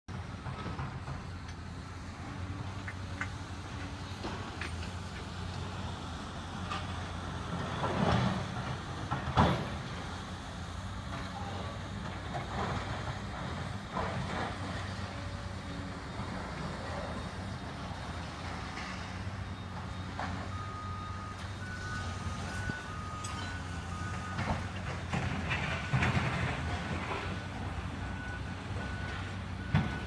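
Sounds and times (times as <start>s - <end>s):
excavator engine drone: 0.1s - 30.0s.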